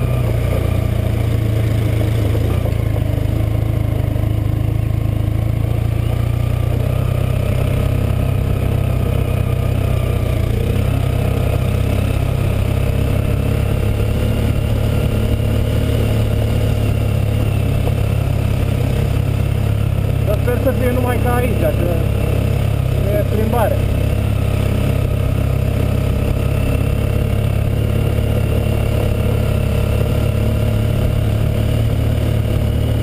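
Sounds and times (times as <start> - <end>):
motorcycle engine droning: 0.0 - 33.0.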